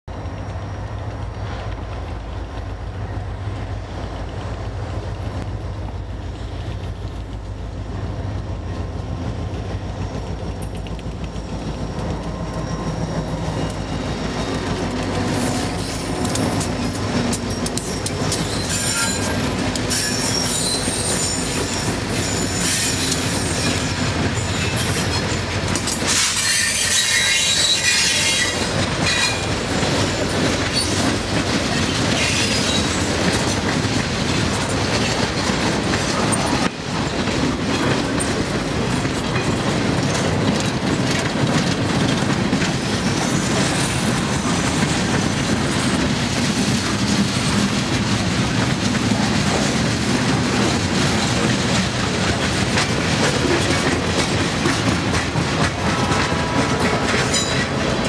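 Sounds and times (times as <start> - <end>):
diesel locomotive engine rumble: 0.1 - 58.0
train wheels squealing and clicking: 0.1 - 58.0.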